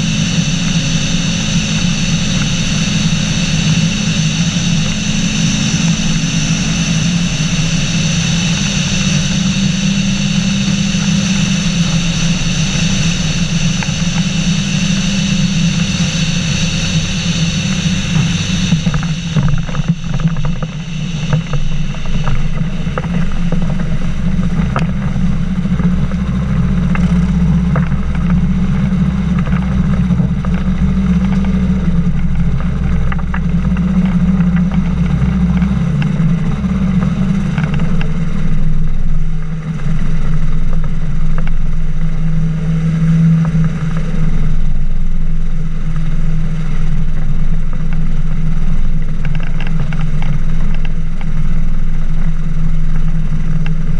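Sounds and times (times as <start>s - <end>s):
boat engine and propeller running: 0.0s - 53.9s.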